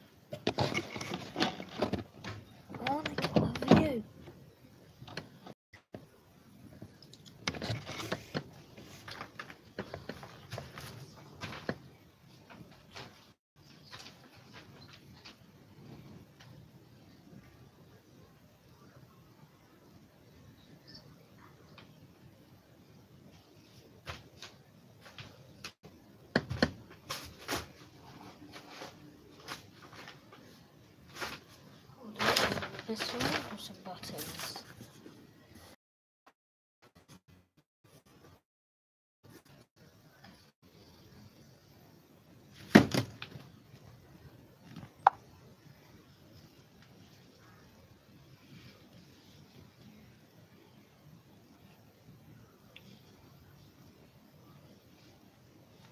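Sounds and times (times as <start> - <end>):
faint room noise: 0.0 - 35.8, 39.2 - 55.9.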